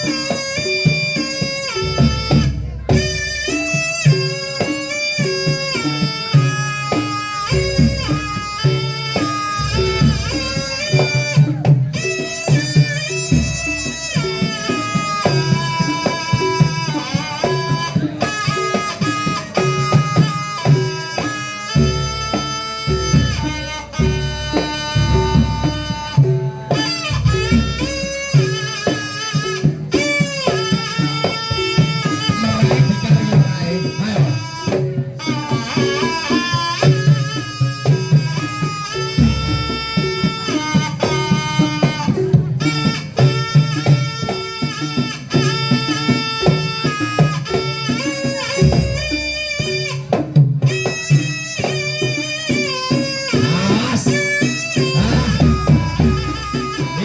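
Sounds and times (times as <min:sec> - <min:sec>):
hand-drum rhythm: 0:00.0 - 0:57.0
reedy wind instrument melody: 0:00.0 - 0:57.0.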